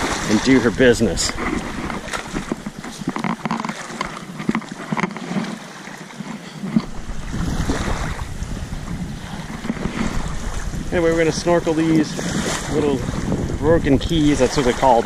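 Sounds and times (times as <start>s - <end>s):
wind rumble on microphone: 0.0s - 4.9s, 6.6s - 15.0s
water splashing and sloshing: 0.0s - 15.0s.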